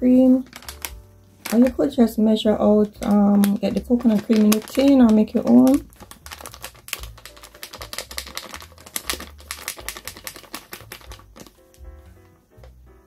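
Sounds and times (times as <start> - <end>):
background music with held notes: 0.0 - 13.0
plastic packet crinkling: 0.2 - 12.8.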